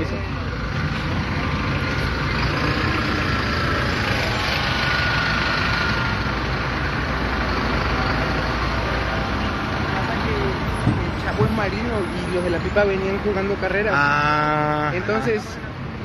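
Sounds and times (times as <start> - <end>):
idling vehicle engines: 0.0 - 16.0
road traffic noise: 0.0 - 16.0.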